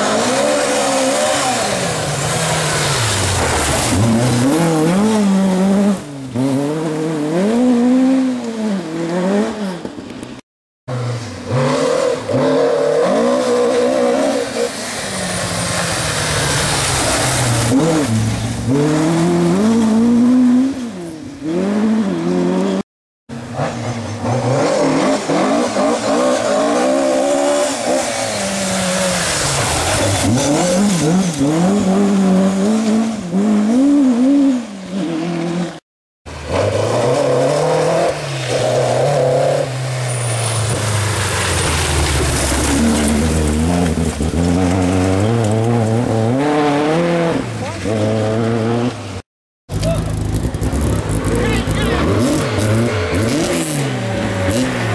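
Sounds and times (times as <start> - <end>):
rally car engines revving hard: 0.0 - 10.2, 10.9 - 22.8, 23.4 - 35.8, 36.4 - 54.9.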